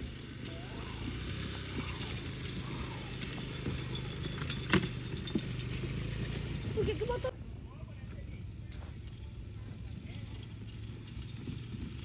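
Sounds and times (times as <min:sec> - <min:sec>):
small motorcycle engine running: 0:00.0 - 0:07.4, 0:08.2 - 0:12.0.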